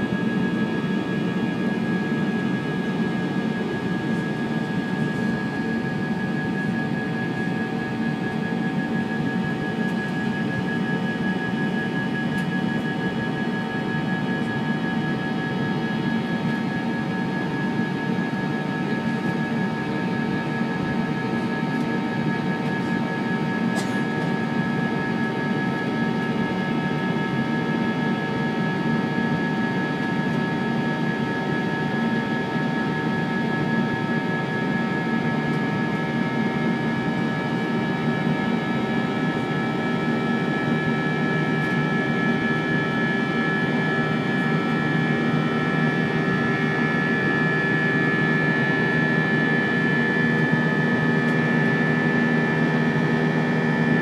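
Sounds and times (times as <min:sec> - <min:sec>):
jet engine and airflow roar: 0:00.0 - 0:54.0.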